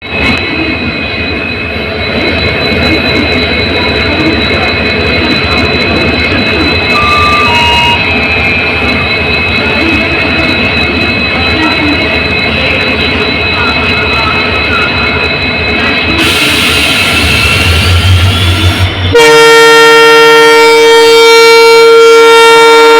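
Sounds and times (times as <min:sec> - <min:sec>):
diesel locomotive engines humming: 0:00.0 - 0:22.9.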